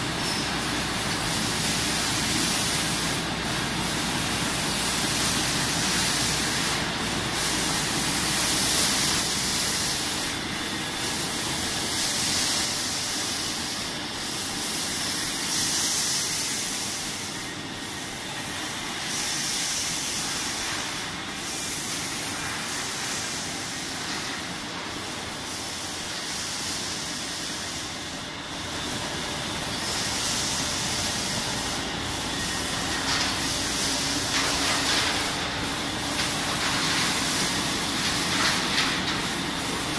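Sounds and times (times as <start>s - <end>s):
machine air hiss: 0.0s - 39.9s.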